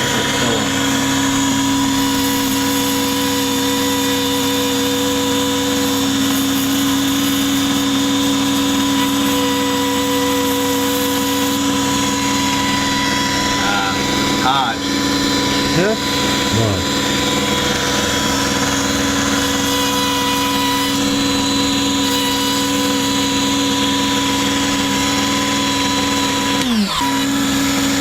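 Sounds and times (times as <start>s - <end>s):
small motor whining steadily: 0.0s - 28.0s.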